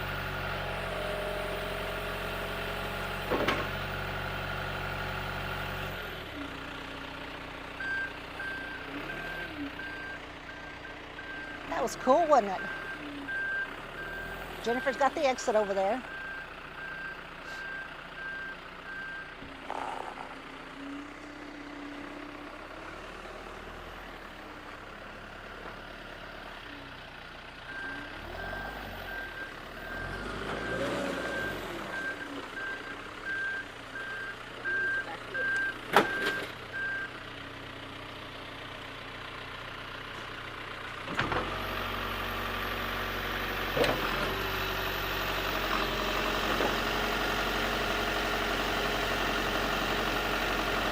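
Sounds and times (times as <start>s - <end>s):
backhoe engine running: 0.0s - 50.9s.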